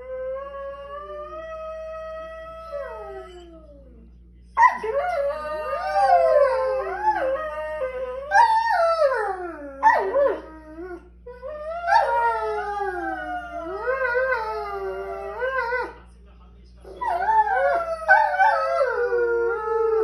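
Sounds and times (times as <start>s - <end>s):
dogs howling: 0.0s - 4.0s, 4.6s - 16.0s, 16.8s - 20.0s.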